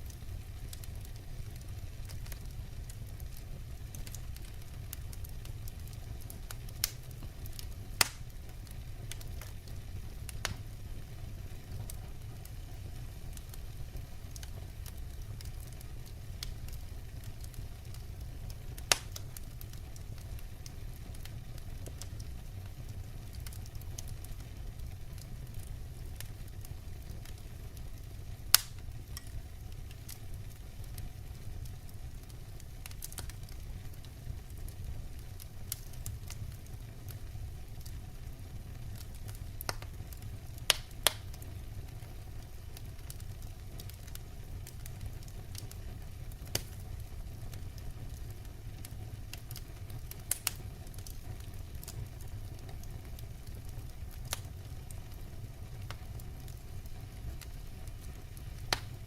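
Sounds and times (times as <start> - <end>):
crackling pops of fire: 0.0 - 59.0
wood fire burning: 0.0 - 59.0.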